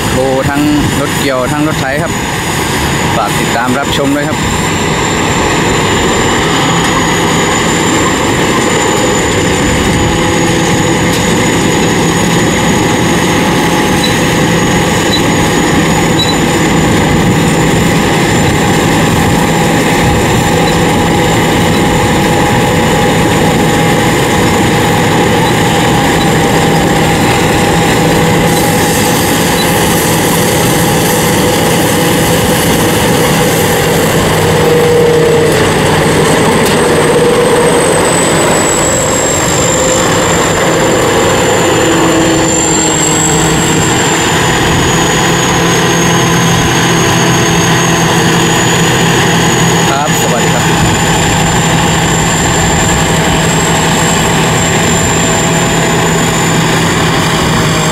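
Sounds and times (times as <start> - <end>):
combine harvester running: 0.0 - 57.9
thin steady high whine: 0.0 - 57.9.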